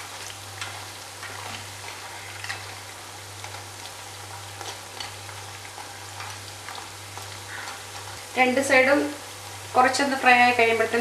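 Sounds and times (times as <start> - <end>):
deep-frying sizzle in oil: 0.0 - 11.0.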